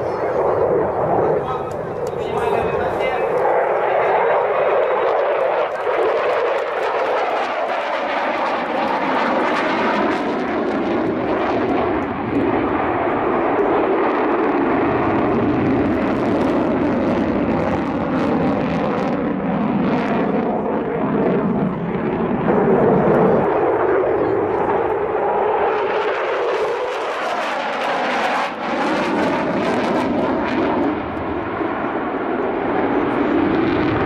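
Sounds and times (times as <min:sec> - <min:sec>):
aircraft engine in flight: 0:00.0 - 0:34.0.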